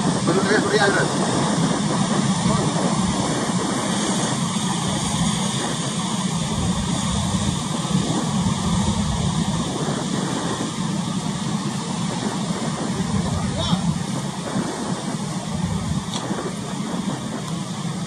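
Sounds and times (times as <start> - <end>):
choppy sea: 0.0 - 18.0
diesel engine humming: 0.0 - 18.0
wind hiss: 0.0 - 18.0.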